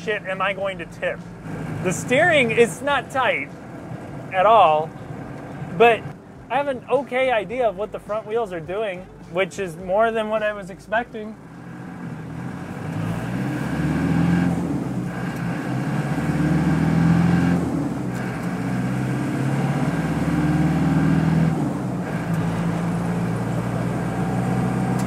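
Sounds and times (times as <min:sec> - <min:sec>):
diesel engine pulling through gears: 0:00.0 - 0:25.0.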